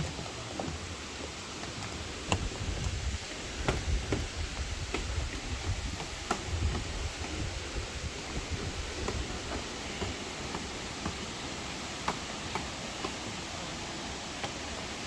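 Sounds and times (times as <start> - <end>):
water rushing from waterfall: 0.0 - 15.0.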